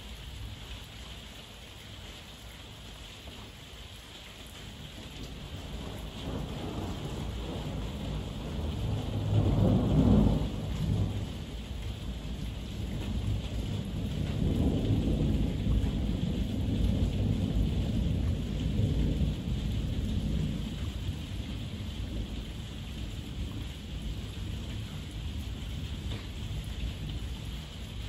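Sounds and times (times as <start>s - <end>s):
heavy rain: 0.0s - 28.0s
thunder rumbling: 5.4s - 28.0s.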